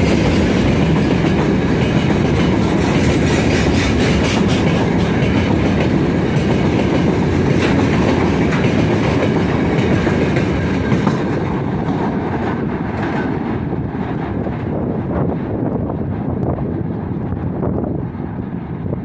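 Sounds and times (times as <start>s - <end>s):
train wheels clattering over rail joints: 0.0s - 17.5s.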